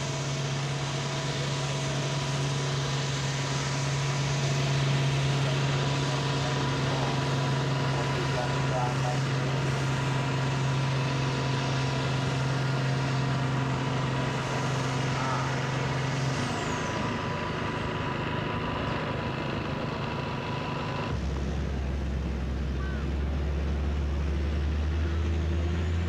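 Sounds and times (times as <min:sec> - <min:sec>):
tractor engine running hard: 0:00.0 - 0:26.0.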